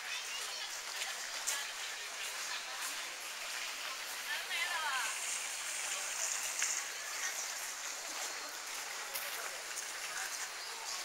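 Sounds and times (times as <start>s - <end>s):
faint voices: 0.0s - 11.0s
steady hiss: 0.1s - 11.0s.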